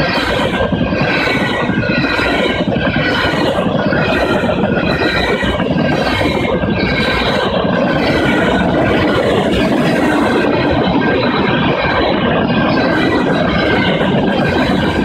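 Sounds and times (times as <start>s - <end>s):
train wheels clattering on rail: 0.0s - 15.0s.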